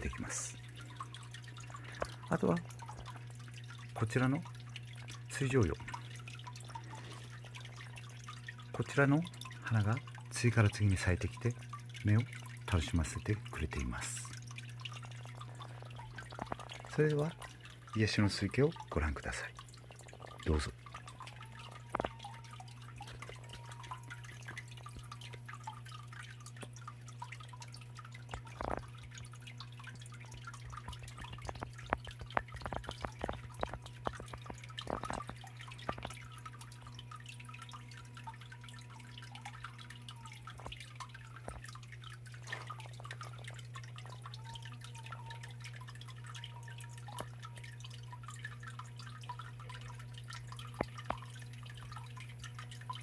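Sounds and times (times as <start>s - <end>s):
water drips and splashes: 0.0s - 53.0s
water trickling over stones: 0.0s - 53.0s.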